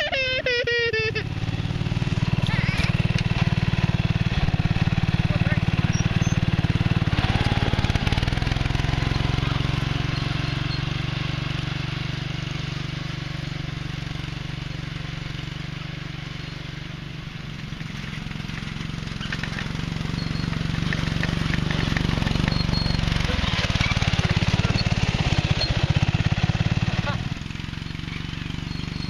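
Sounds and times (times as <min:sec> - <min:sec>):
lawn tractor engine running: 0:00.0 - 0:29.0.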